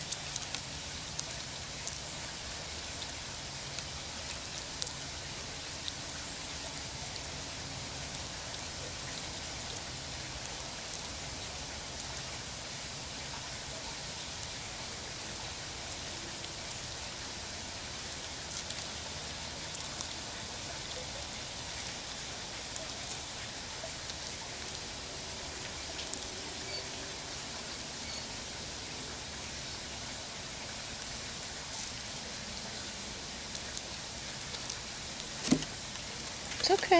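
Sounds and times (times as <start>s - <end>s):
squirrel cracking seed shells: 0.0s - 29.6s, 30.6s - 36.9s
background hiss: 0.0s - 36.9s.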